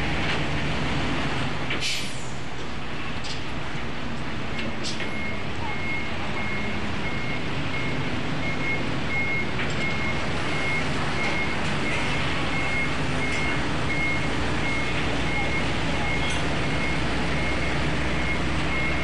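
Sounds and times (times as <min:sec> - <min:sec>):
loud steady rumbling: 0:02.4 - 0:19.0.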